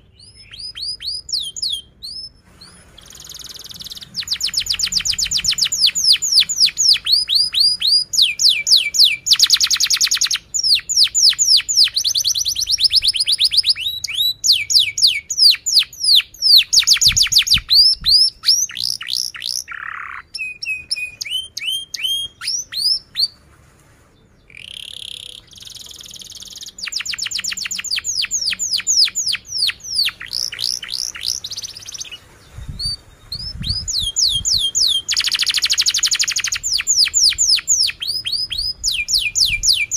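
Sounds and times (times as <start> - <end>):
canary singing fast trills: 0.0 - 23.5, 24.2 - 39.9.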